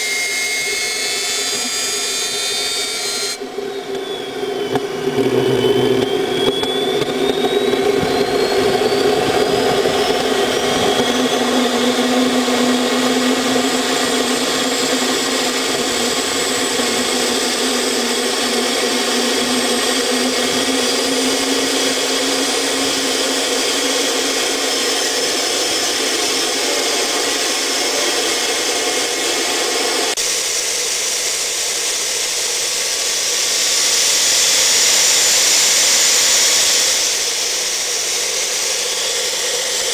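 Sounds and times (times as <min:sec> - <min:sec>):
turbojet engine rushing and whining: 0:00.0 - 0:39.9.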